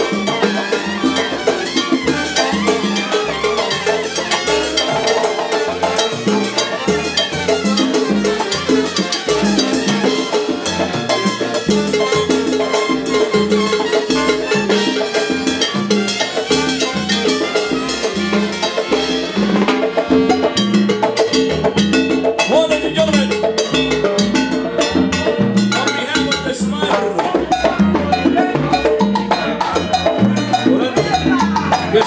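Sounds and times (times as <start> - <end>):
trumpets: 0.0 - 21.8, 27.2 - 32.0
percussion: 0.0 - 32.0
salsa band playing: 0.0 - 32.0.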